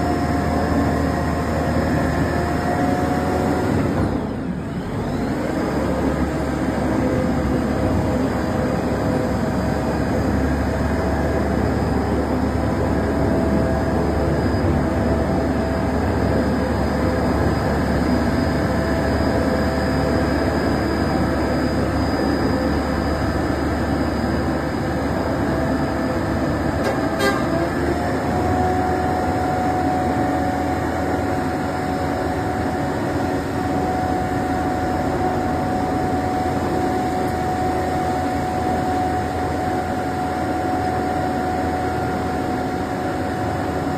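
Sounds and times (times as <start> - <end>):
held mechanical whine: 0.0 - 43.9
truck engine running: 0.0 - 43.9.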